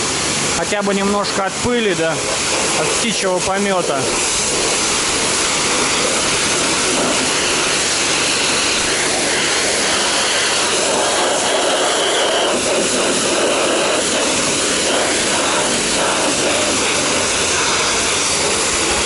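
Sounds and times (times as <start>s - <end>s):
pressure washer spraying car: 0.0s - 19.0s.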